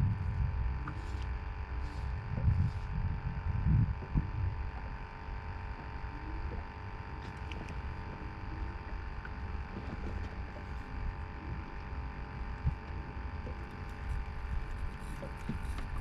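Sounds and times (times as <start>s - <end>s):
faint steady hum: 0.0s - 16.0s
wind rumble on microphone: 0.0s - 16.0s.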